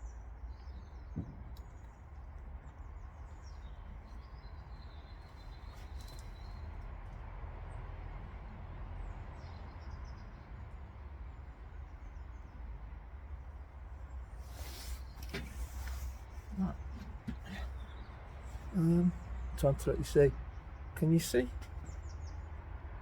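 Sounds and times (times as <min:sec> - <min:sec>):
small birds chirping: 0:00.0 - 0:07.2, 0:09.0 - 0:22.6
low outdoor rumble: 0:00.0 - 0:23.0.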